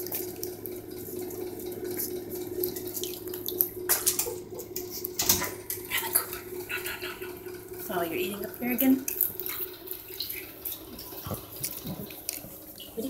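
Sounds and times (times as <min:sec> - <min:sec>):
water running into bathtub: 0:00.0 - 0:13.0.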